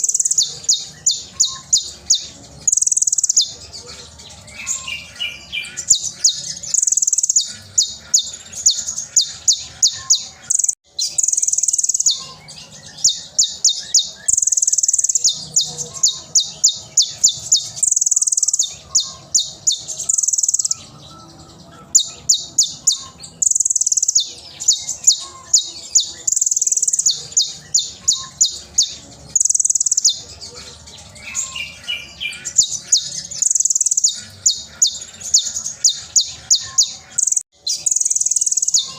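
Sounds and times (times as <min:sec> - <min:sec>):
bird singing loudly: 0:00.0 - 0:38.9.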